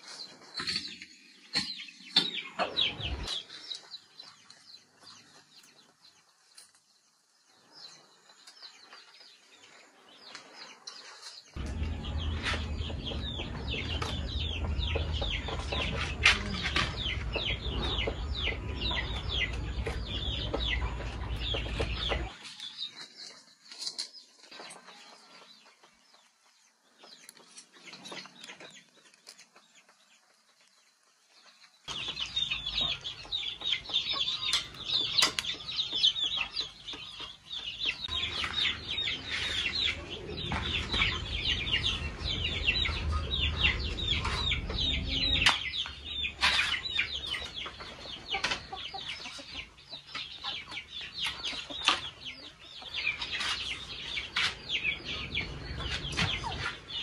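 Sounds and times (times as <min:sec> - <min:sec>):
chickens clucking and cheeping: 0:00.0 - 0:57.0.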